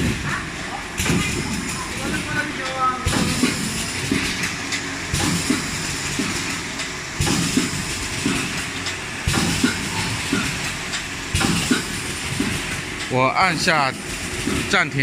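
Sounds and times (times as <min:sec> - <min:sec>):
packing machine clacking: 0:00.0 - 0:15.0.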